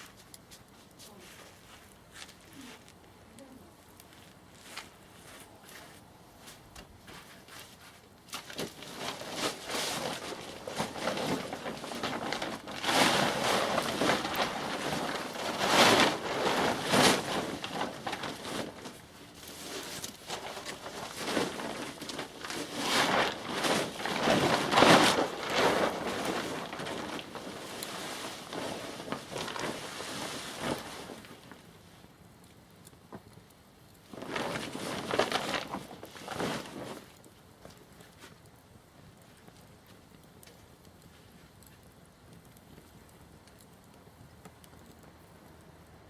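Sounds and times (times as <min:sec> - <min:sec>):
bonfire crackling and hissing: 0:00.0 - 0:46.0.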